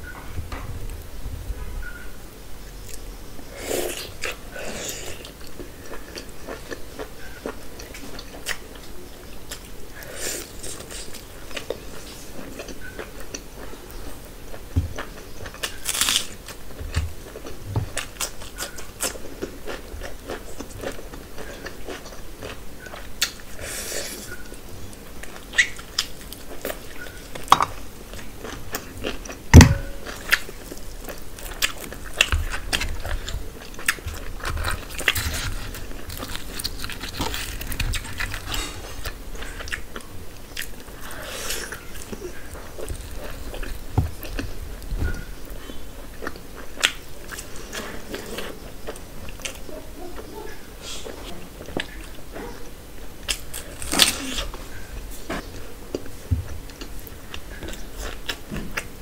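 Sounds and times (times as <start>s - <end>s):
food crunching: 3.8s - 50.3s, 51.3s - 59.0s.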